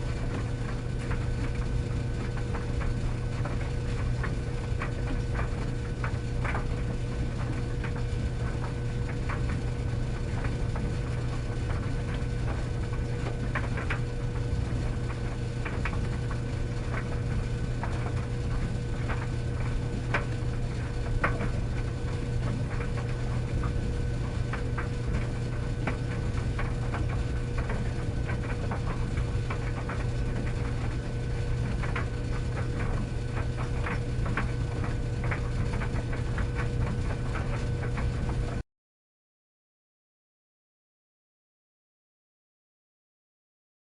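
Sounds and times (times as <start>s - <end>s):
tumble dryer motor hum: 0.0s - 38.6s.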